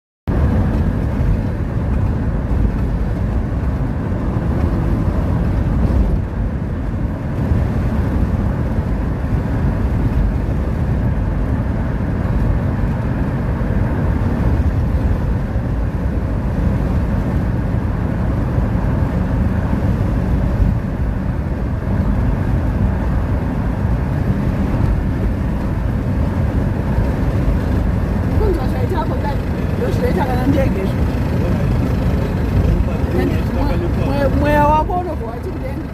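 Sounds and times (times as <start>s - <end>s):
engine drone inside vehicle cabin: 0.3s - 35.9s.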